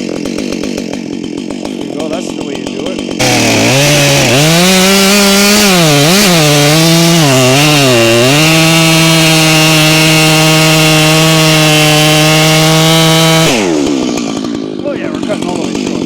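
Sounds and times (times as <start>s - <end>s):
chainsaw cutting through stump: 0.0s - 16.0s.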